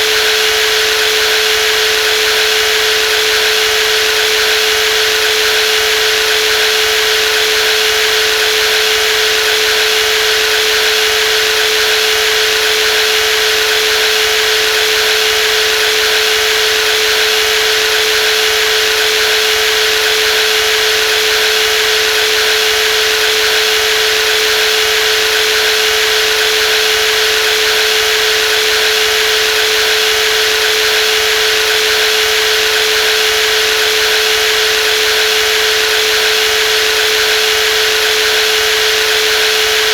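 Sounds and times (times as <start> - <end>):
jigsaw running: 0.0 - 39.9.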